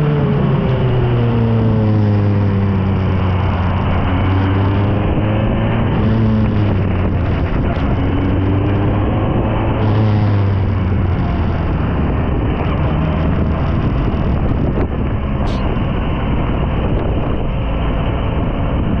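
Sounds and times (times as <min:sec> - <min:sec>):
race car engine: 0:00.0 - 0:19.0
wind noise on microphone: 0:00.0 - 0:19.0.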